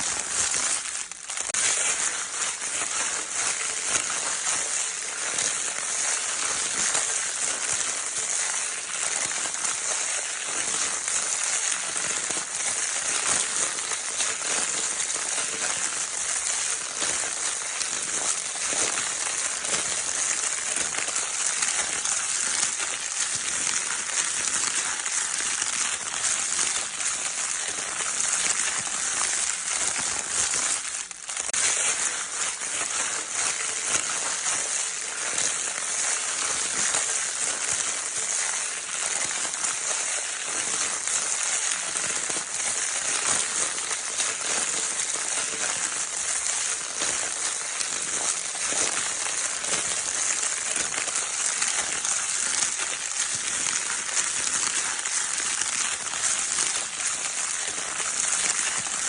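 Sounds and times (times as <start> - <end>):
crinkle paper toy crackling: 0.0 - 59.0.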